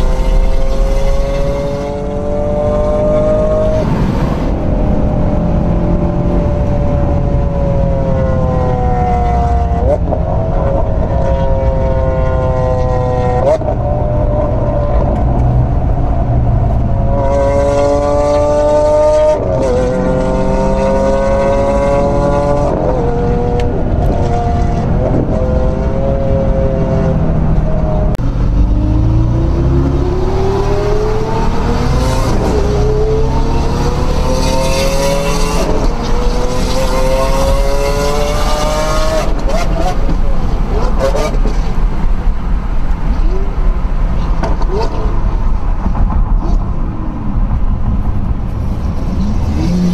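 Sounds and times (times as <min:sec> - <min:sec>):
sports car engine accelerating: 0:00.0 - 0:43.8
road rumble: 0:00.0 - 0:49.9.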